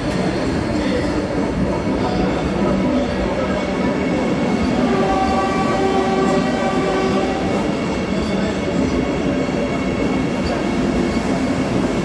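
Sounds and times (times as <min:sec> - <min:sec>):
train rolling past: 0:00.0 - 0:12.0.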